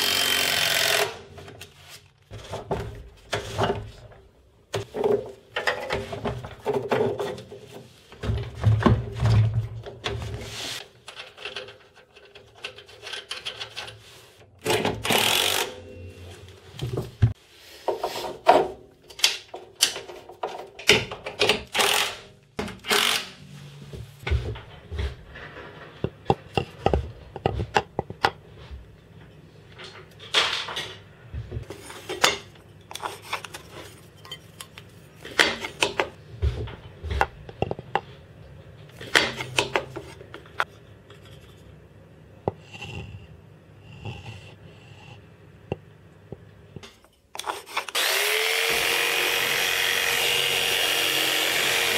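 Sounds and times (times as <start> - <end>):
knocks and scrapes on wood and metal: 1.3 - 14.9, 15.9 - 21.7, 22.6 - 48.0.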